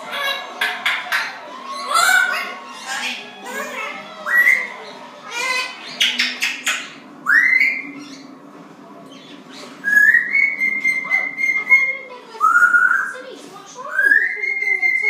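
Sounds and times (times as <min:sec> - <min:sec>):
parrot whistling: 0:00.0 - 0:08.2, 0:09.8 - 0:13.2, 0:13.8 - 0:15.0.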